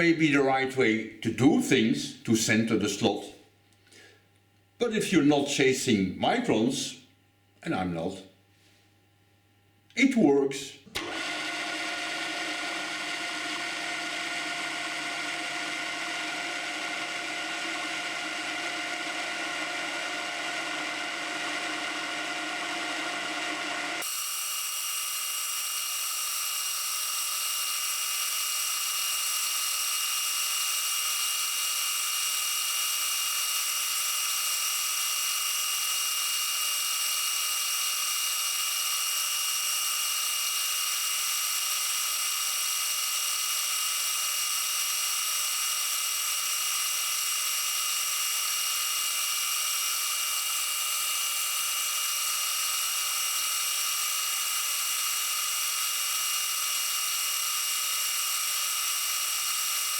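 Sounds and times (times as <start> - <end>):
milling machine high-pitched whine: 11.0 - 59.9.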